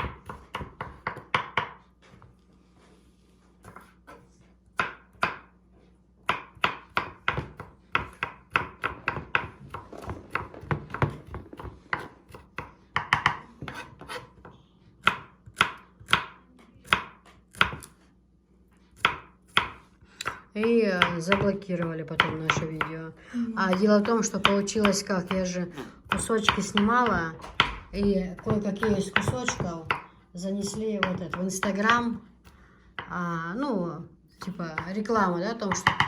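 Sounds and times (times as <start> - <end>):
knife chopping on cutting board: 0.0 - 1.8, 3.6 - 5.5, 6.2 - 18.0, 19.0 - 23.0, 23.7 - 33.2.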